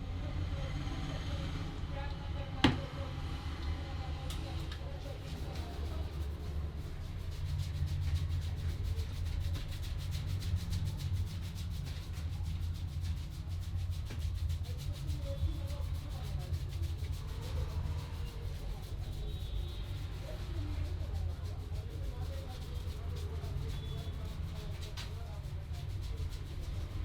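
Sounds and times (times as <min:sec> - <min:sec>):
hands rubbing scalp and hair: 0:04.4 - 0:27.0.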